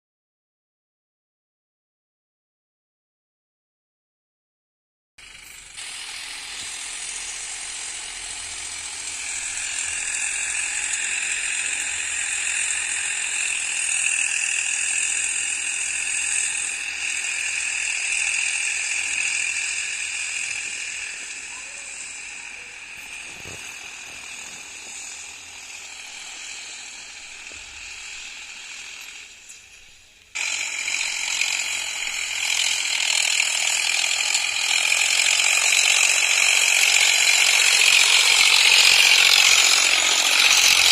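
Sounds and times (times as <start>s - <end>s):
metallic rattling of machinery: 5.2s - 40.9s
tractor pulling a harrow: 5.2s - 40.9s.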